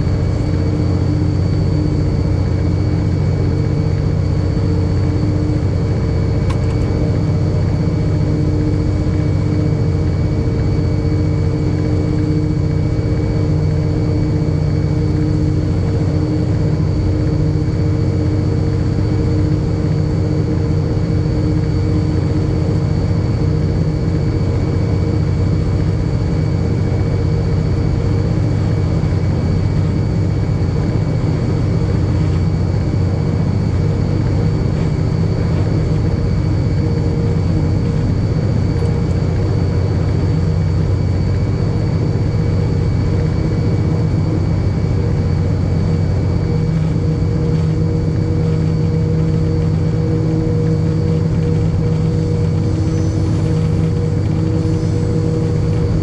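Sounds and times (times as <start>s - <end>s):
locomotive engine drone with whine: 0.0s - 56.0s.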